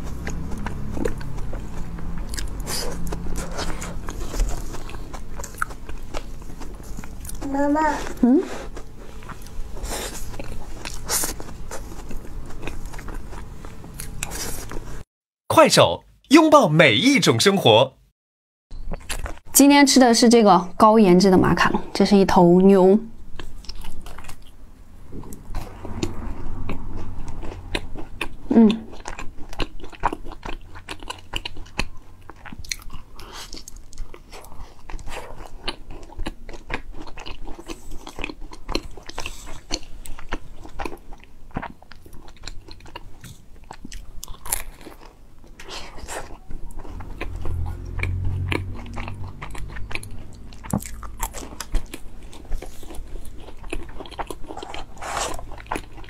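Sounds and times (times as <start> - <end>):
crunching and chewing: 0.0 - 15.1, 18.8 - 19.5, 23.2 - 56.0.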